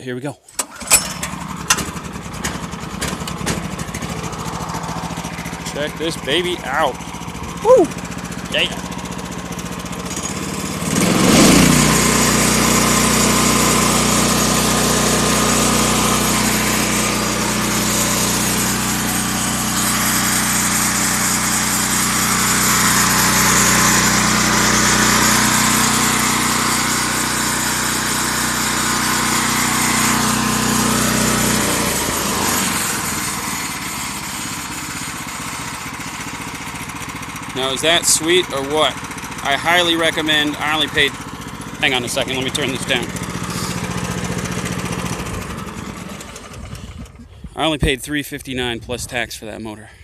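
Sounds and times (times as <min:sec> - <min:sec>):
gasoline engine running at high throttle: 0:00.5 - 0:48.0.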